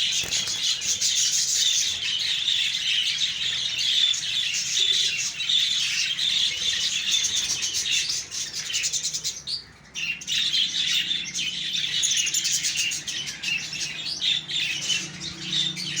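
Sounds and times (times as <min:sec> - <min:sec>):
budgerigars chattering and warbling: 0:00.0 - 0:16.0.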